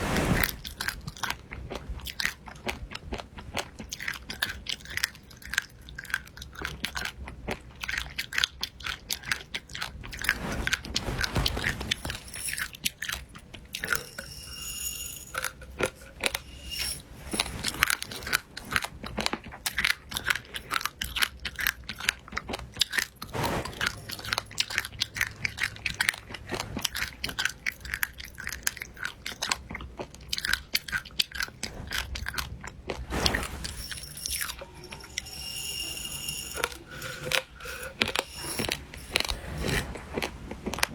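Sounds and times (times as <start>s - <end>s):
crunchy food being chewed: 0.4s - 14.2s, 17.3s - 35.0s, 36.6s - 40.9s.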